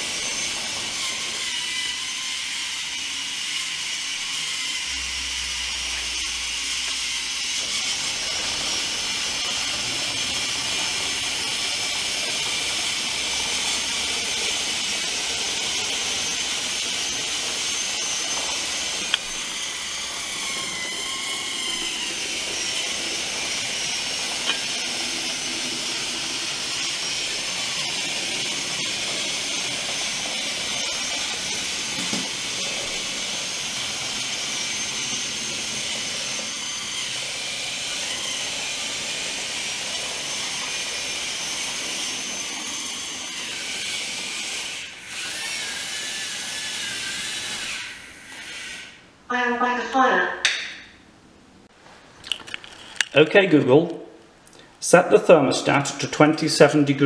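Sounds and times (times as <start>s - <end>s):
motors whining: 0.0s - 50.2s.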